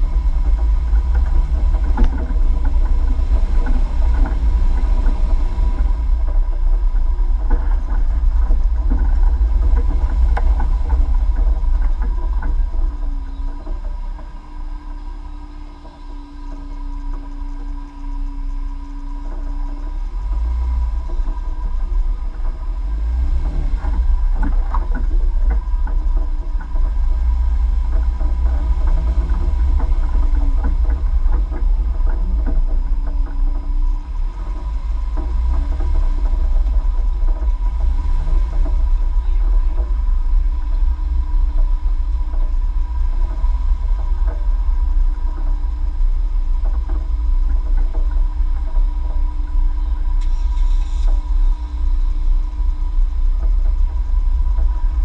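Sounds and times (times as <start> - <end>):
vehicle engine rumble: 0.0 - 55.0.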